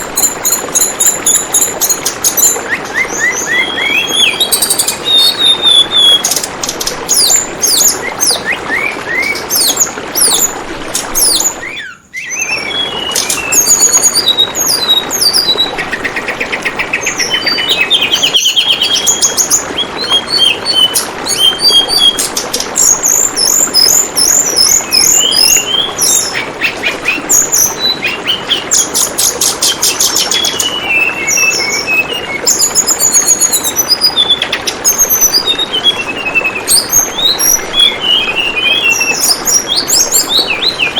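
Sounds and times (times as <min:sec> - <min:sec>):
babbling water: 0:00.0 - 0:40.9
songbird chirping and trilling: 0:00.0 - 0:40.9.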